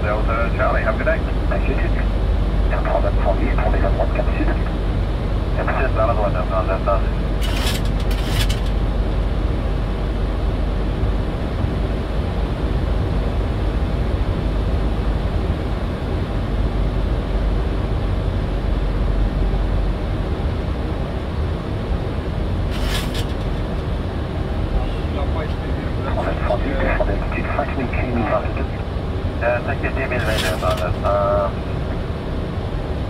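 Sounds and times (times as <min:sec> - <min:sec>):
aircraft cockpit engine and air rush: 0:00.0 - 0:33.0.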